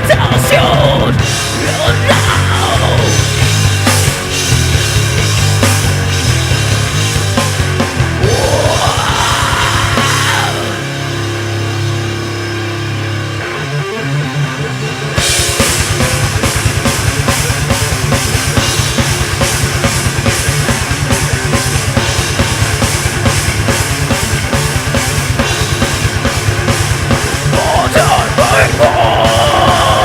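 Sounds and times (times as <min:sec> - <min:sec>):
fast drum beats: 0:00.0 - 0:10.9, 0:15.2 - 0:30.0
held guitar and bass notes: 0:00.0 - 0:30.0
rock band playing: 0:00.0 - 0:30.0.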